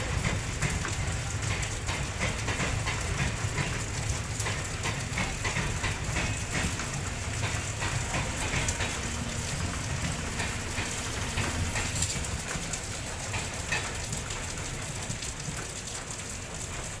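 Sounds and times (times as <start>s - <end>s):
train wheels clicking over rails: 0.0s - 17.0s.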